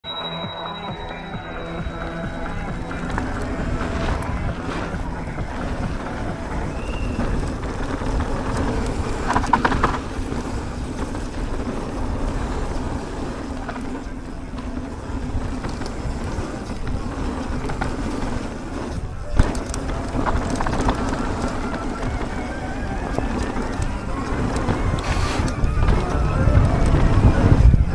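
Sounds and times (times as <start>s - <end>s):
bike tyres rumbling on dirt: 0.1s - 27.9s
wind on microphone: 1.7s - 27.9s.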